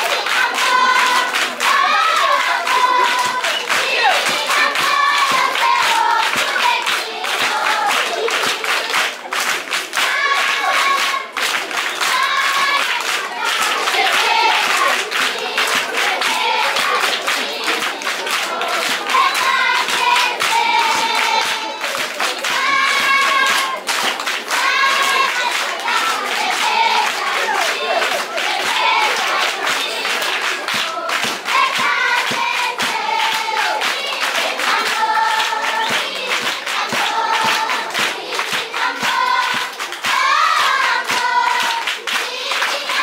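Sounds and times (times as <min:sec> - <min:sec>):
children singing together: 0:00.0 - 0:43.0
hands clapping: 0:00.0 - 0:43.0.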